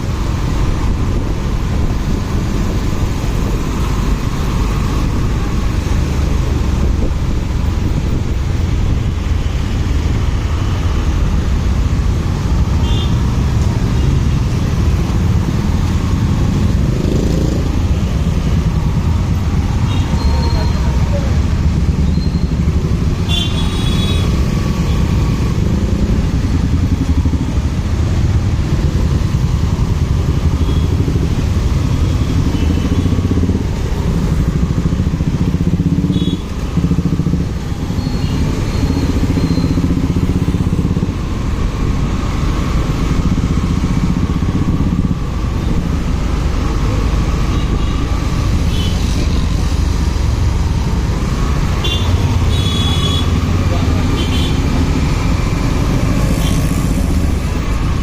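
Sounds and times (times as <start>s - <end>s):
motorcycle engine and road noise: 0.0s - 58.0s.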